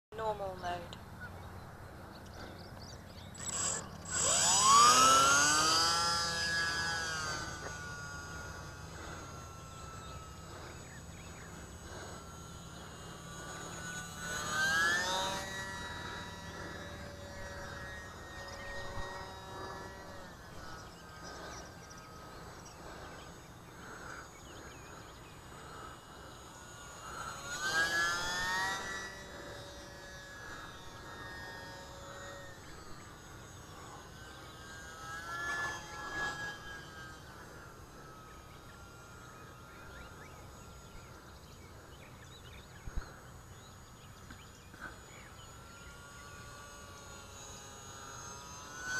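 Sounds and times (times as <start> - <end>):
small electric motor whining: 0.1 - 48.9.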